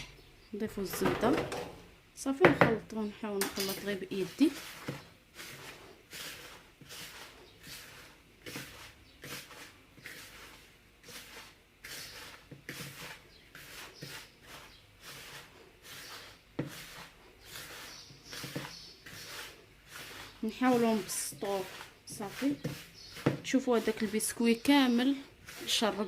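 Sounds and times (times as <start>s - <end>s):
hands mixing crumbs in a bowl: 2.5s - 26.0s.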